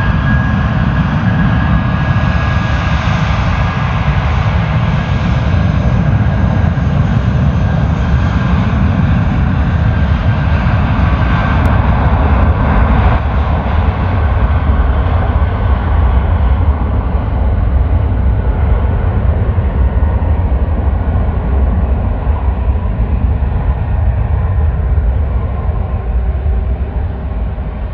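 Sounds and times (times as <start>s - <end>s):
jet airliner engines rumbling: 0.0s - 27.9s.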